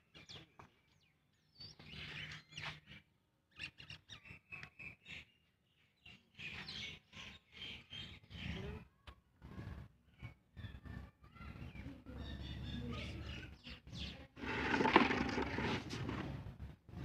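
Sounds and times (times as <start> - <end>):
small birds chirping: 0.0 - 15.7.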